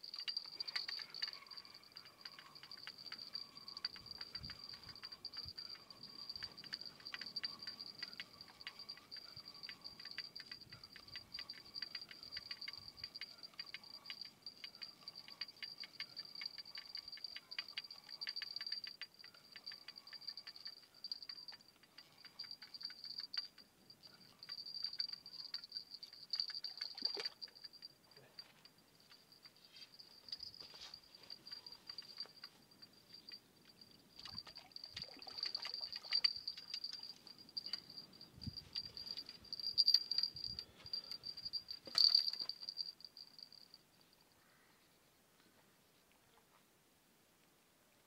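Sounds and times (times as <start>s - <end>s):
fishing reel ticking: 0.0s - 27.9s, 30.1s - 43.6s.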